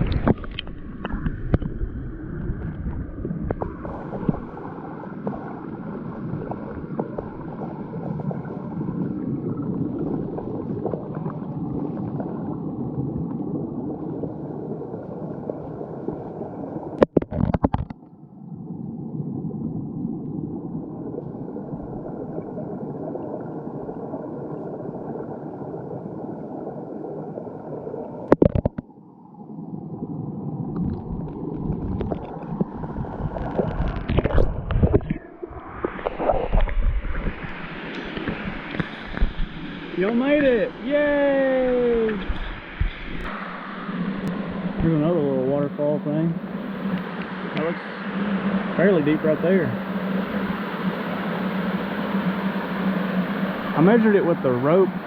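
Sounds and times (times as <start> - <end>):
underwater gurgling rush of water: 0.0 - 55.0.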